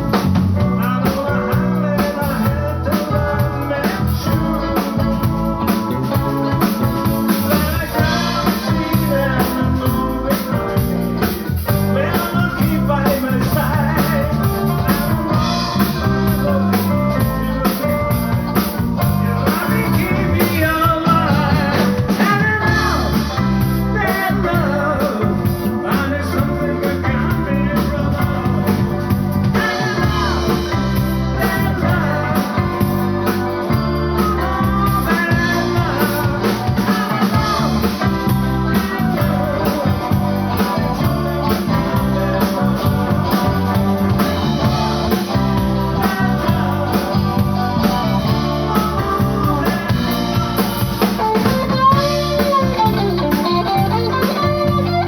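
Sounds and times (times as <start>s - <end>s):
blues-rock band playing live: 0.0s - 55.0s
person singing: 0.1s - 55.0s.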